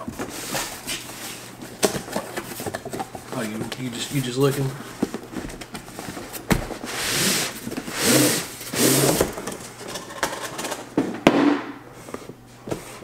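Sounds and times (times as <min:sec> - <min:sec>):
cardboard scraping: 0:00.0 - 0:10.6.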